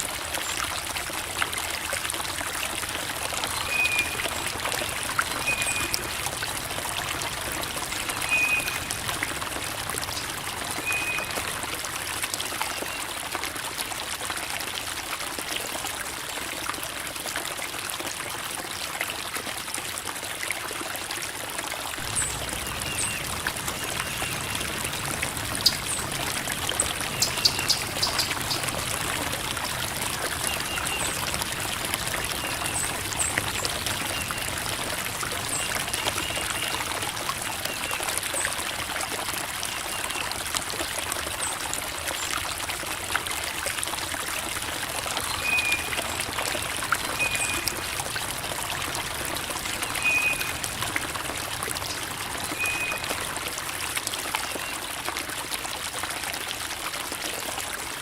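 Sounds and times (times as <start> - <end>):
creek water babbling over rocks: 0.0 - 58.0.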